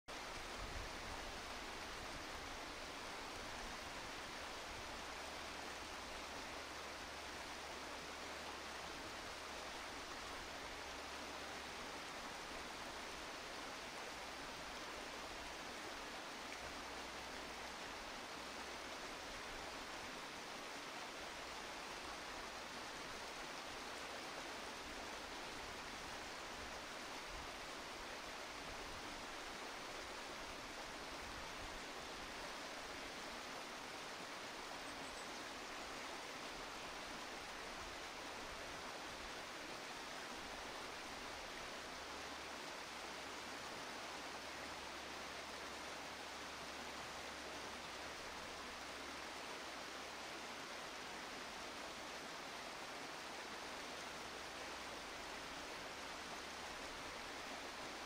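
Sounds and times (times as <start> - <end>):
steady background hiss: 0.1 - 58.0.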